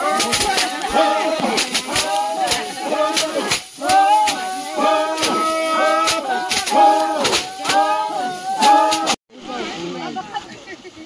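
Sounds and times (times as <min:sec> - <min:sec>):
voices singing: 0:00.0 - 0:09.6.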